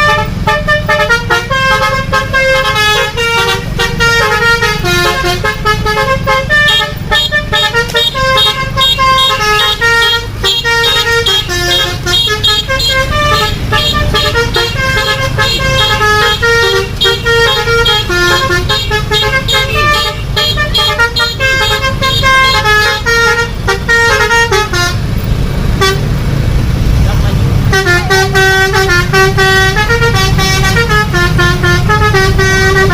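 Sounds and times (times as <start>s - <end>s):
multi-tone bus horn melody: 0.0s - 26.4s, 27.1s - 32.9s.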